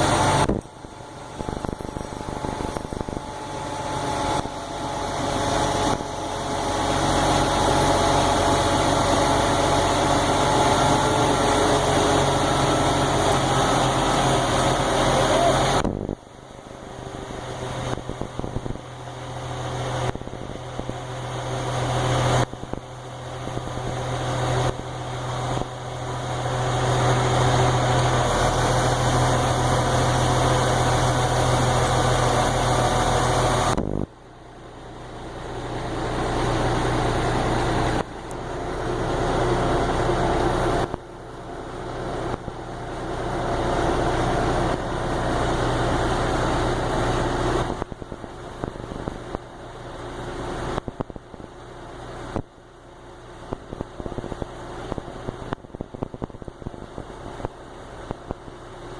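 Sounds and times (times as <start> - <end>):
engine humming: 0.0 - 52.5.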